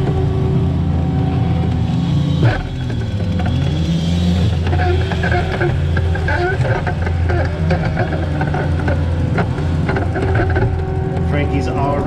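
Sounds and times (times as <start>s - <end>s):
heavy machine engine running: 0.0s - 12.0s
machinery squealing: 0.0s - 12.0s
machinery clanks: 1.4s - 12.0s.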